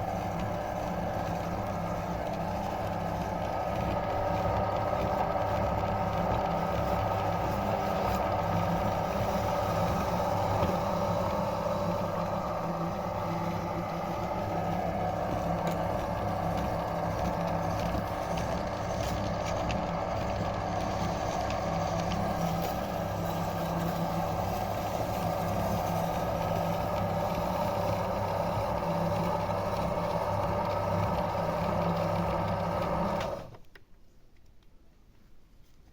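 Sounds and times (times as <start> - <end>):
meat grinder grinding cookies: 0.0 - 33.6.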